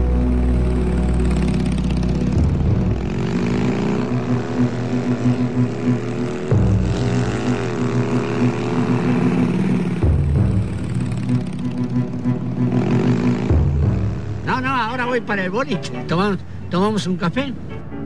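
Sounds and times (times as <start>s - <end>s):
vehicle engine accelerating hard: 0.0s - 15.3s.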